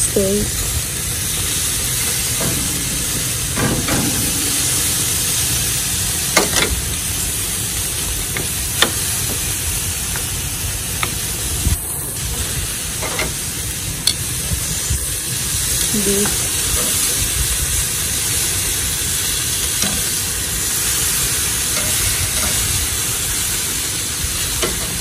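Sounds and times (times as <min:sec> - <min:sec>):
food sizzling on grill: 0:00.0 - 0:25.0.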